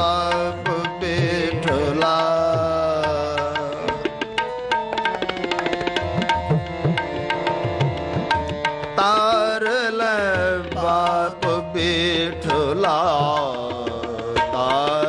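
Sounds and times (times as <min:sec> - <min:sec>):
tabla playing: 0:00.0 - 0:15.0.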